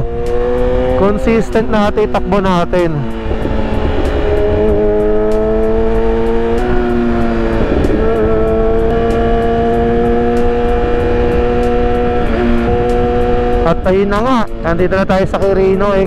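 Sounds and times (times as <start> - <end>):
motorcycle engine running: 0.0 - 16.0
wind rumbling on microphone: 0.0 - 16.0.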